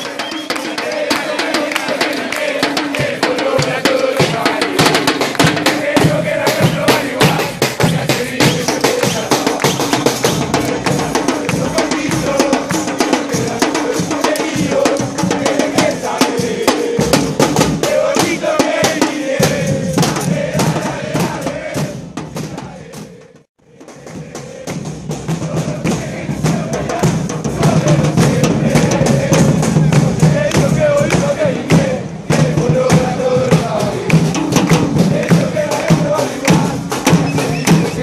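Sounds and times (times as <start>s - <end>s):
football supporters chanting: 0.0s - 38.0s
bass drums beaten rapidly: 0.8s - 38.0s.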